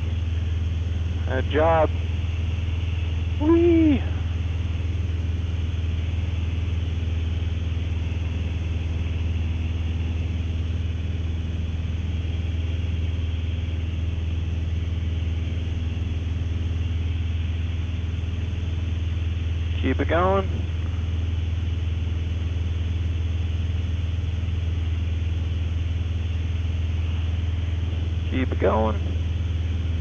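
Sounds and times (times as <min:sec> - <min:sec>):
propeller airplane engine drone: 0:00.0 - 0:30.0.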